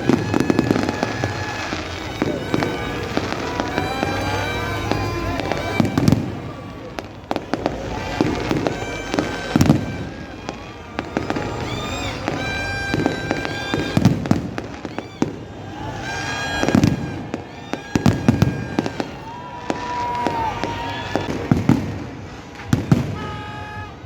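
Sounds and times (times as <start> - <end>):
fireworks crackling bangs: 0.0 - 24.0
fireworks deep booms: 0.0 - 24.0
fireworks whistling: 0.0 - 24.0.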